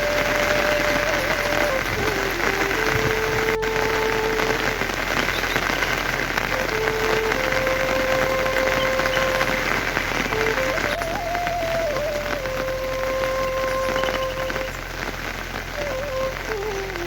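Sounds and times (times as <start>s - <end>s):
heavy rain pouring: 0.0s - 17.0s
quiet melody of held notes: 0.0s - 17.0s.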